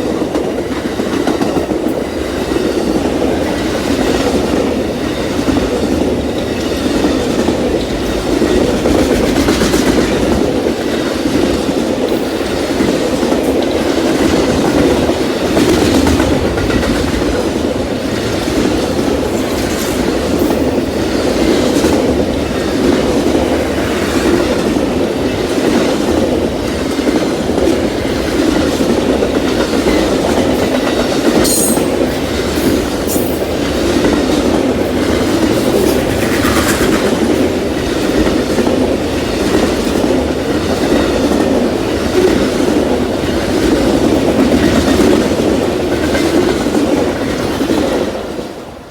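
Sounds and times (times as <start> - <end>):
train cars rumbling past: 0.0 - 48.9
wheels clicking over rail joints: 5.4 - 48.2.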